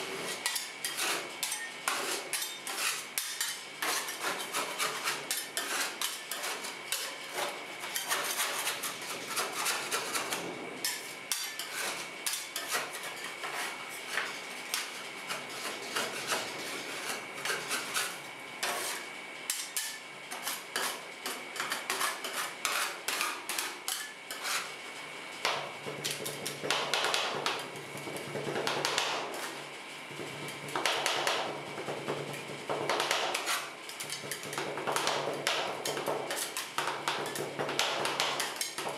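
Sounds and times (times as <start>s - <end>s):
metal spatulas tapping and scraping: 0.3s - 24.7s, 30.4s - 38.9s.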